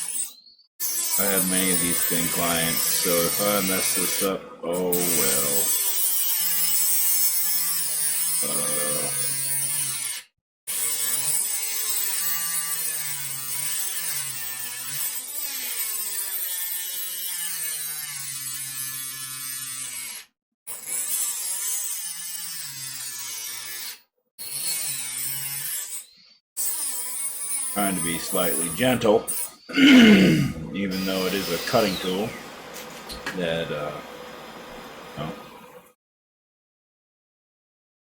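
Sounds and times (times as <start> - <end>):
rotary tool whining and cutting: 0.0 - 29.7, 30.8 - 35.9.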